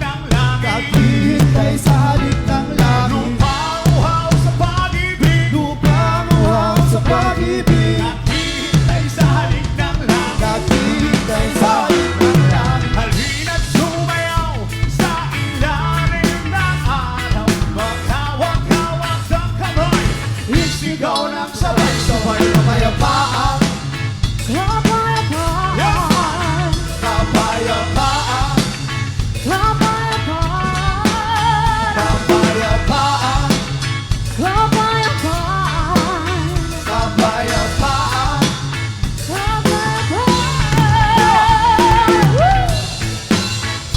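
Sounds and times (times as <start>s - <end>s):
reggae band playing: 0.0s - 43.9s.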